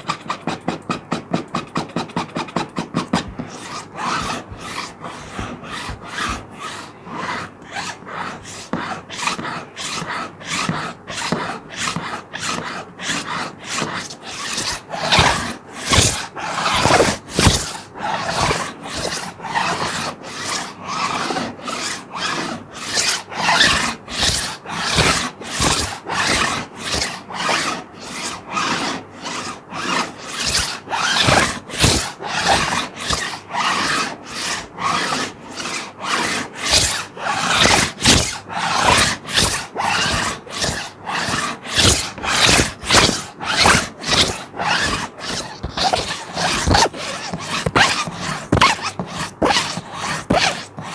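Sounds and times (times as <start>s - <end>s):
plastic sheet being scratched: 1.8s - 50.9s.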